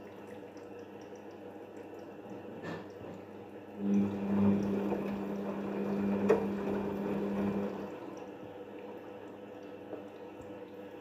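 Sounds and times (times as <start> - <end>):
water and laundry sloshing: 0.0 - 11.0
washing machine motor humming: 1.2 - 11.0.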